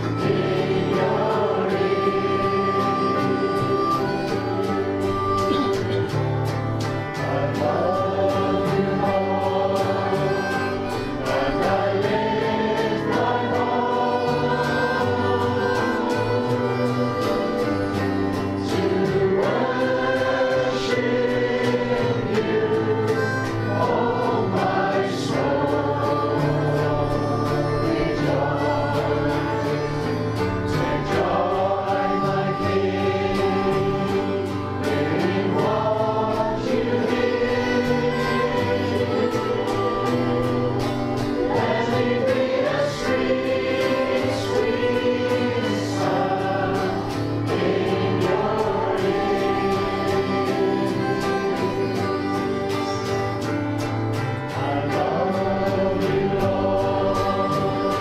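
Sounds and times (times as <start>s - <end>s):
choir singing a hymn: 0.0s - 58.0s
instrumental accompaniment: 0.0s - 58.0s.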